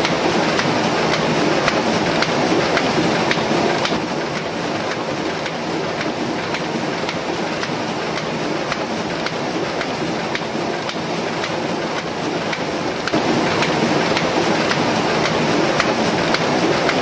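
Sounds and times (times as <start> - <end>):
printing press running: 0.0 - 17.0.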